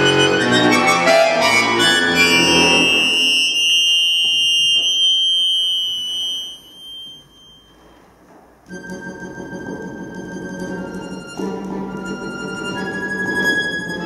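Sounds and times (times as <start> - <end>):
accordion chord and held tone: 0.0 - 7.9, 8.7 - 14.0.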